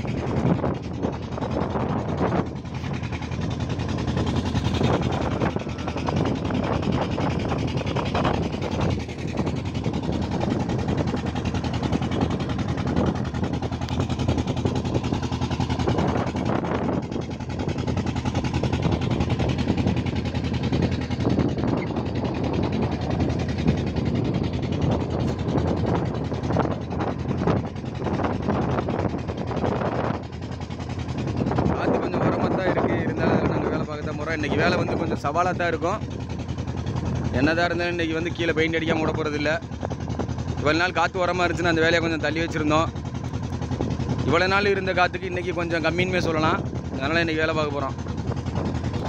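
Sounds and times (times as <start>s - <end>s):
outboard motor running: 0.0s - 49.0s.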